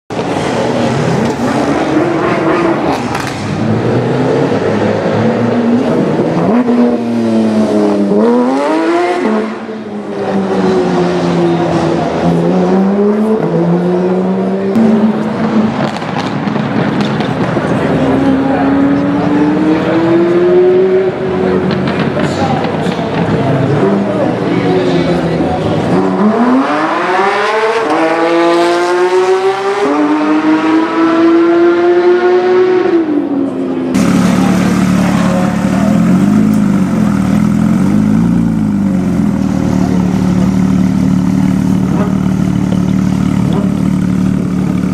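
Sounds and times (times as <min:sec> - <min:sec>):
loud sports car engine revving: 0:00.1 - 0:44.9.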